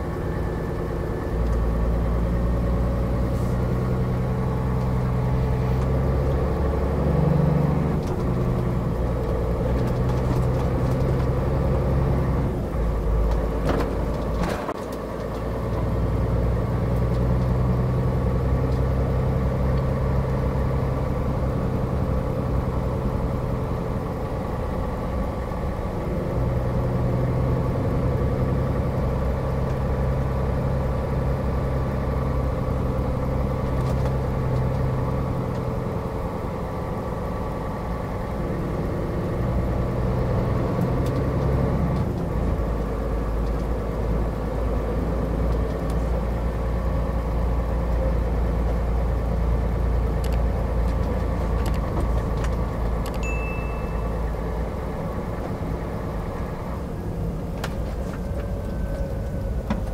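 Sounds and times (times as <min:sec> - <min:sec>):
truck diesel engine drone: 0:00.0 - 0:59.9.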